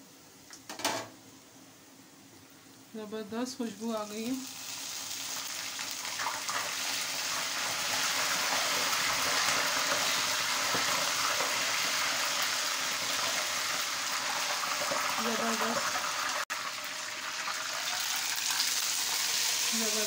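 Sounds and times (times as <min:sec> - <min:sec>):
hot oil sizzling in a wok: 0:03.6 - 0:20.0.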